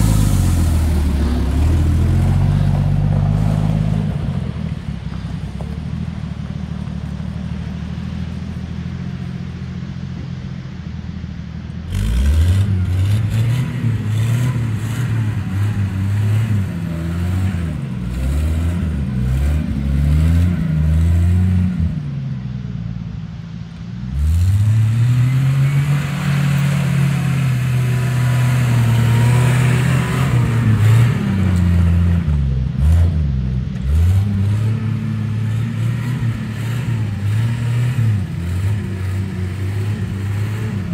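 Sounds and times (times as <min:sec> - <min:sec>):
truck engine idling and revving: 0:00.0 - 0:40.9.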